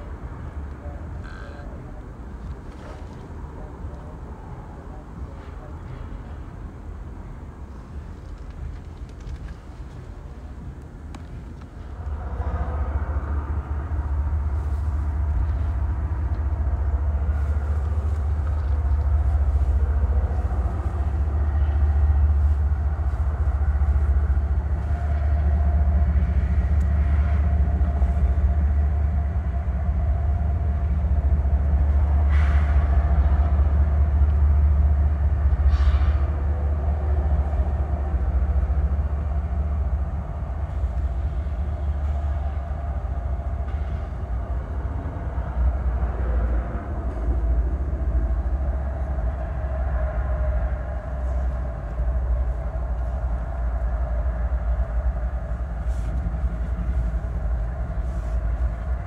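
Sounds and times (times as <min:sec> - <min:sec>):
freight train rumbling past: 0:09.7 - 0:59.0.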